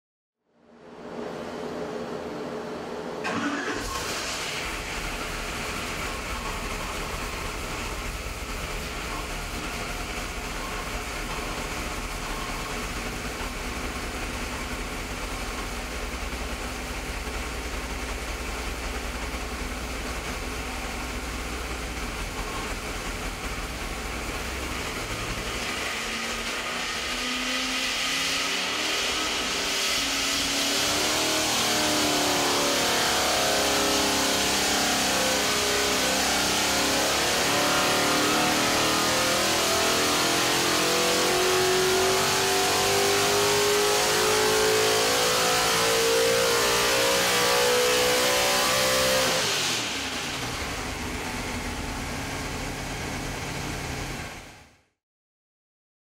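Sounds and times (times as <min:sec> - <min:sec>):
race engine revving on dyno: 0:03.2 - 0:54.7.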